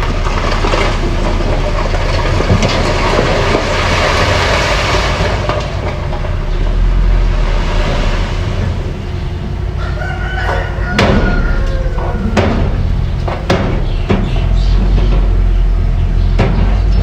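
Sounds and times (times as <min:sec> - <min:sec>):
mini bulldozer running: 0:00.0 - 0:17.0.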